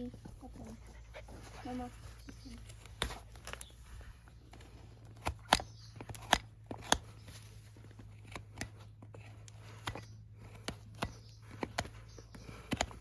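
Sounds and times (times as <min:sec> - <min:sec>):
hoof-cutting tools snipping: 0:02.2 - 0:13.0.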